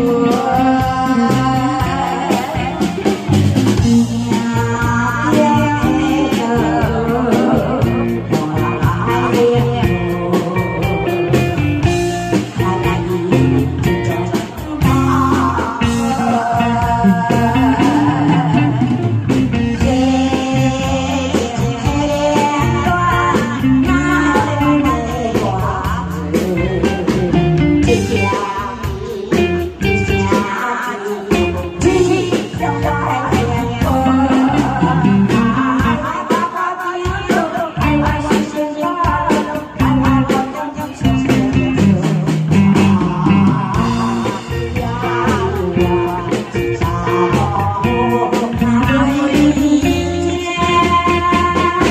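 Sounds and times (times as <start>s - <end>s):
backing music with electric guitar: 0.0s - 51.9s
woman singing into microphone: 0.0s - 51.9s.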